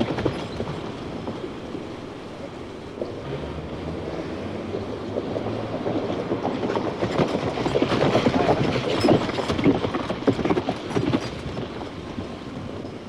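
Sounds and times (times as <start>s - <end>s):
horse hooves clopping on dirt: 0.0s - 13.0s.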